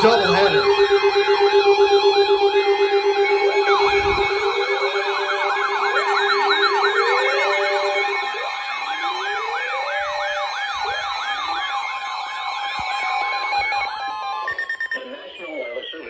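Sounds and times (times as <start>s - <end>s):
electronic sirens yelping and wailing: 0.0s - 16.0s
steady siren tone: 0.0s - 16.0s.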